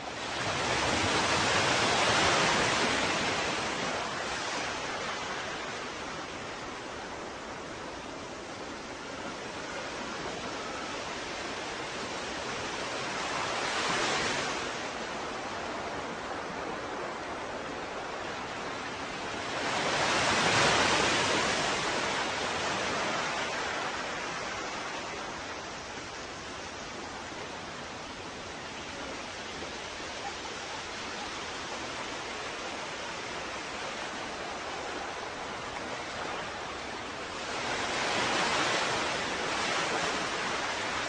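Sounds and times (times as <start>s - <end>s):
ocean waves breaking: 0.0s - 41.0s.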